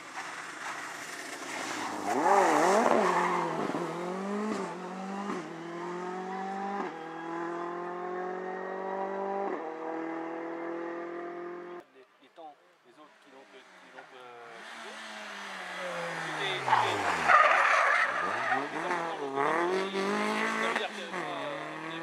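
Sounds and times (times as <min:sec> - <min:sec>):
engine upshifts accelerating: 0:00.1 - 0:11.8, 0:13.5 - 0:22.0
rally car engine revving: 0:00.6 - 0:11.8, 0:13.4 - 0:22.0.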